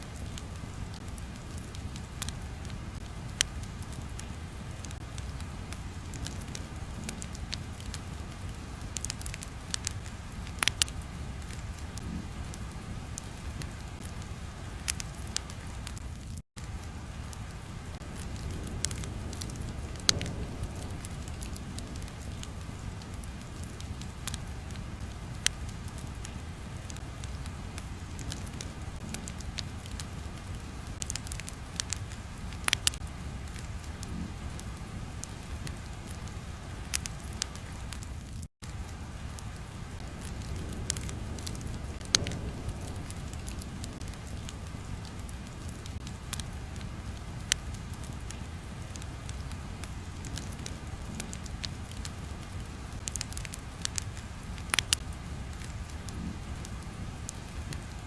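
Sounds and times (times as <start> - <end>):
fire popping and crackling: 0.0 - 58.0
fire rumbling: 0.0 - 58.0.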